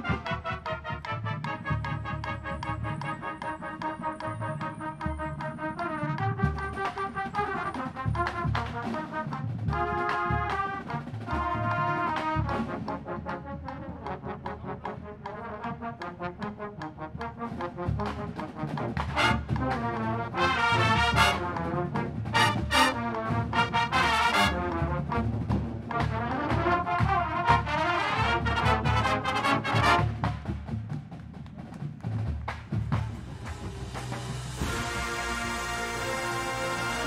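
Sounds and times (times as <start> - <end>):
brass hornline playing chords: 0.0 - 16.8, 17.7 - 30.5, 33.6 - 37.0.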